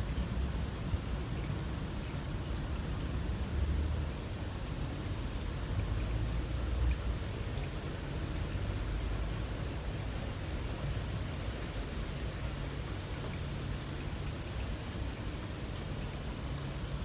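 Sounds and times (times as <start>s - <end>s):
light rain hiss: 0.0s - 17.0s.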